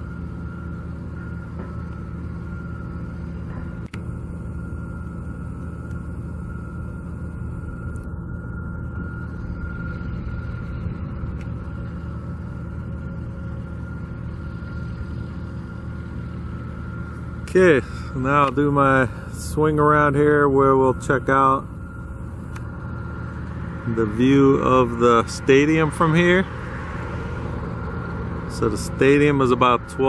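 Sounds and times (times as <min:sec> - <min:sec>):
low engine rumble: 0:00.0 - 0:30.0
thin steady whine: 0:00.0 - 0:30.0.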